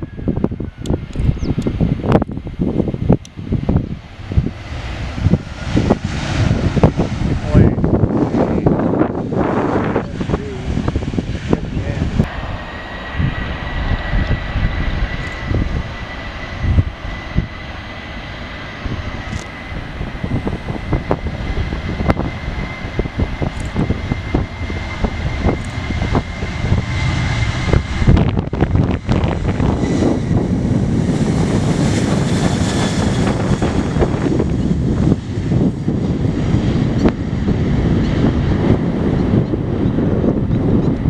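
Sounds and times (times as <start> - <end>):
jet engines at takeoff: 0.0 - 41.0.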